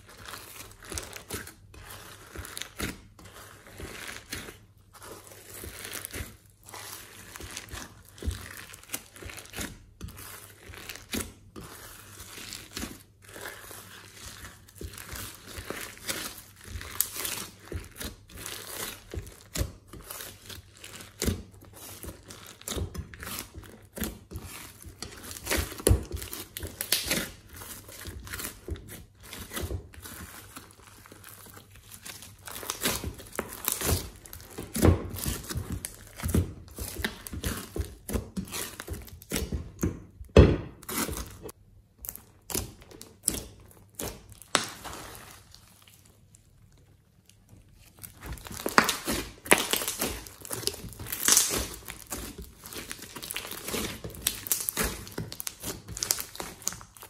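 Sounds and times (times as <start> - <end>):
slime crackling and squelching: 0.0 - 57.0.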